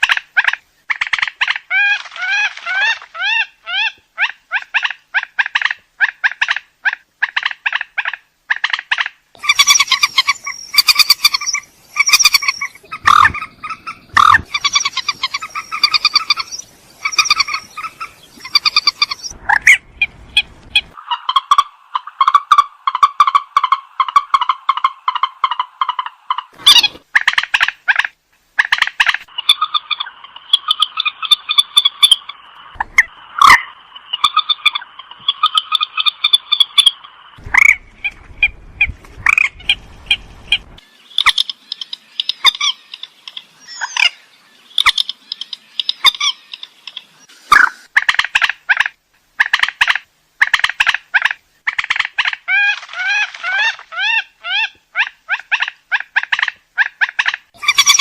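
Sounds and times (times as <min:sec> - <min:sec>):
bird harsh croaking calls: 0:00.0 - 0:58.0.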